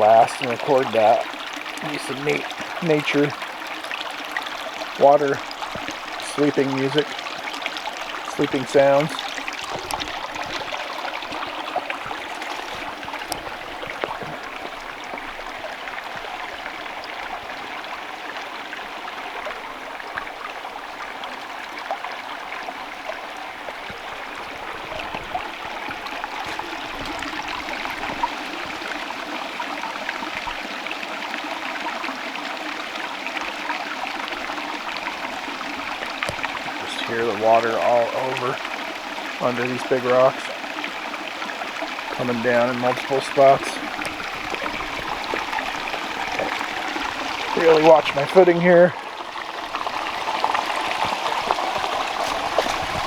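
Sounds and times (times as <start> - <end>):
stream trickling and splashing: 0.0 - 53.0.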